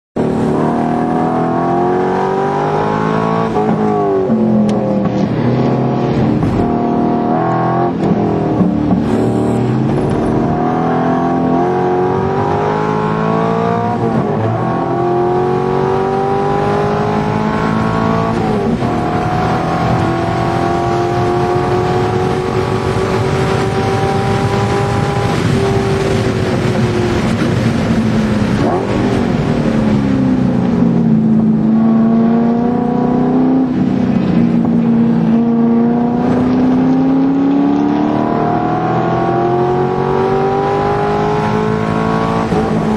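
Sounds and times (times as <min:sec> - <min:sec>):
race car engine accelerating: 0:00.2 - 0:42.9.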